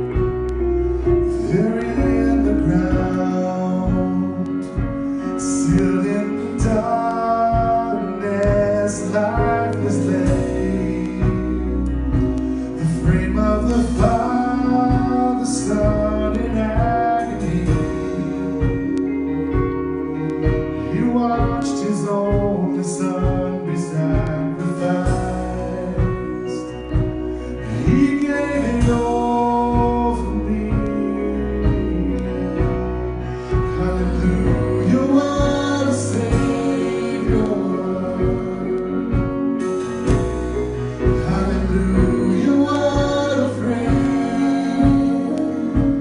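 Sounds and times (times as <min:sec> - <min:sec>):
steady drum beat: 0:00.0 - 0:46.0
worship song singing: 0:00.0 - 0:46.0.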